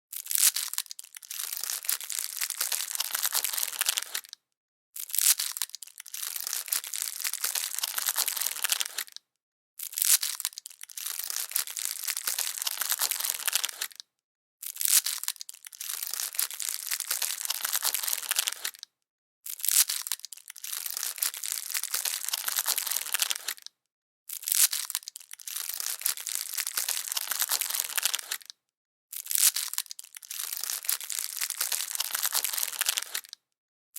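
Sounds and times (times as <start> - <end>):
plastic wrapper crinkling: 0.2 - 4.4, 5.0 - 9.2, 10.0 - 14.0, 14.8 - 18.9, 19.6 - 23.7, 24.3 - 28.6, 29.2 - 33.4.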